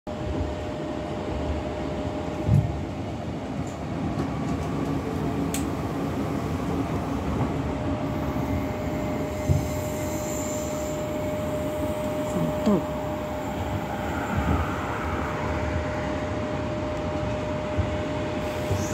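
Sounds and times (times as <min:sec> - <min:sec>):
train carriage rumble: 0:00.1 - 0:18.9.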